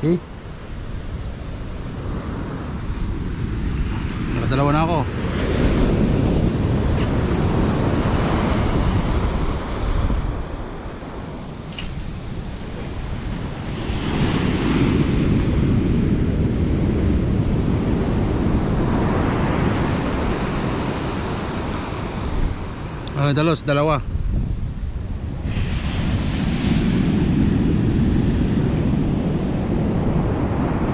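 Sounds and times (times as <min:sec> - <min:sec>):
ocean surf washing on sand: 0:00.0 - 0:30.9
wind rumbling on microphone: 0:00.0 - 0:30.9.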